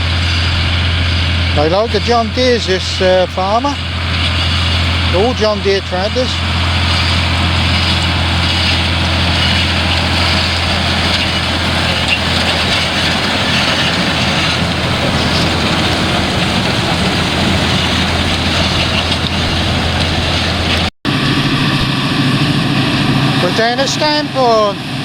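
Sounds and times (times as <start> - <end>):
low hum: 0.0 - 23.8
different engine running: 0.0 - 25.0
tractor diesel engine running: 0.0 - 25.0.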